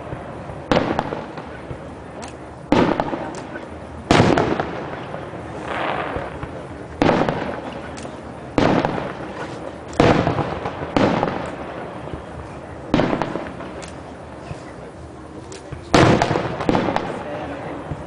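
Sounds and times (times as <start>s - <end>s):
fireworks bursting with echo: 0.0s - 18.0s.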